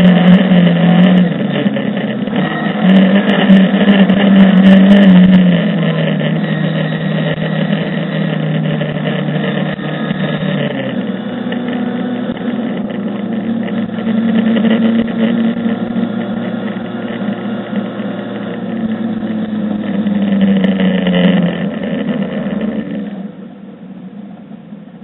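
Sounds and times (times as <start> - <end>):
rally car engine revving: 0.0 - 24.5.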